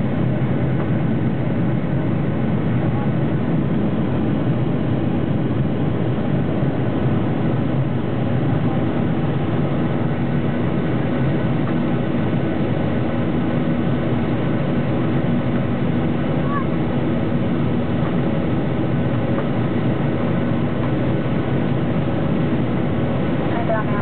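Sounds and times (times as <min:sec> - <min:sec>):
jet engine drone in cabin: 0:00.0 - 0:24.0.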